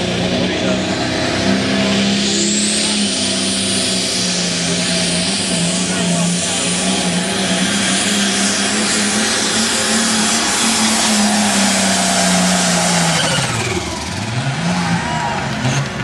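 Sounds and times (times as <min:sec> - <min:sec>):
tractor engine at full throttle: 0:00.0 - 0:16.0.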